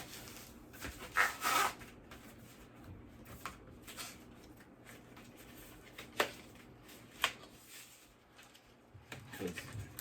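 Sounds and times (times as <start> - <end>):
handling noises sorting items: 0.0 - 10.0.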